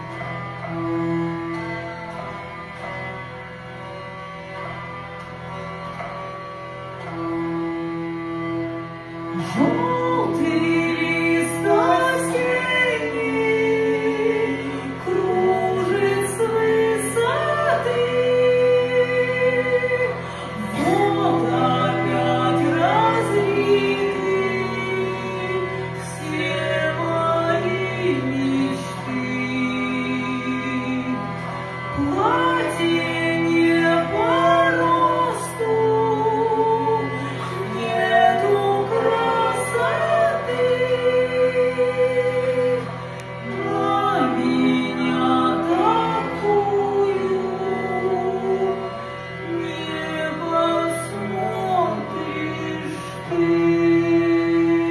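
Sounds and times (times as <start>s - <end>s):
hurdy-gurdy drone: 0.0s - 54.9s
woman singing: 9.4s - 31.2s, 31.9s - 48.8s, 49.4s - 54.9s.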